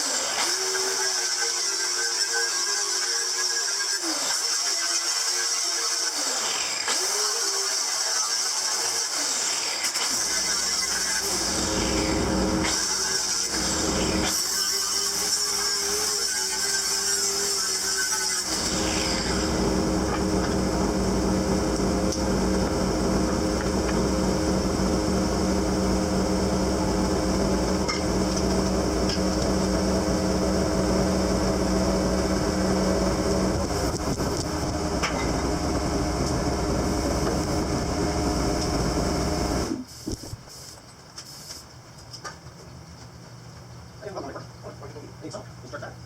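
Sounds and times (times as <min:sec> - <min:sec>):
power tool on metal: 0:00.0 - 0:40.3.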